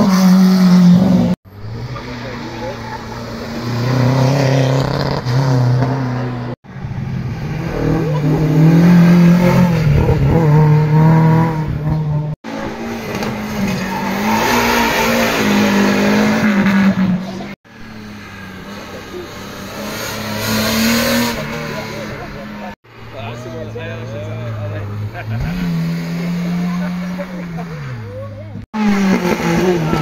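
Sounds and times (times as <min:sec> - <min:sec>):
race car engines accelerating: 0:00.0 - 0:30.0.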